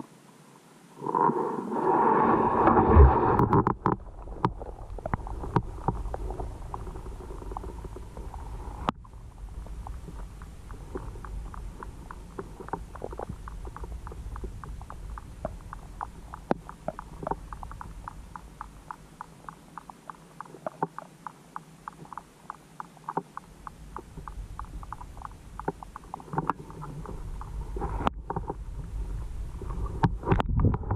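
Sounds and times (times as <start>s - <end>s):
low underwater rumble: 1.0s - 21.1s, 23.2s - 30.9s.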